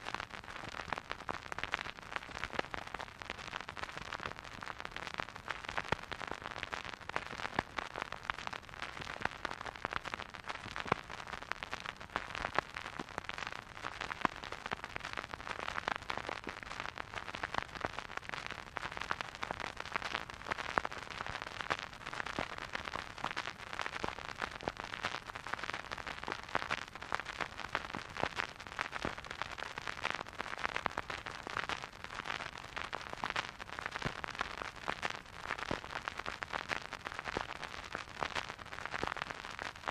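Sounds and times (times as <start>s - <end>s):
vinyl record crackle and hiss: 0.0s - 39.9s.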